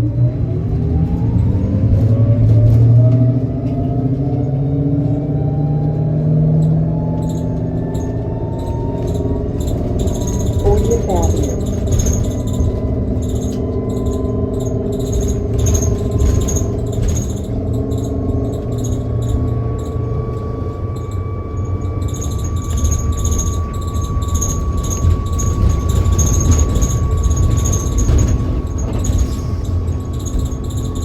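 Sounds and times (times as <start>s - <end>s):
low road rumble: 0.0s - 31.0s.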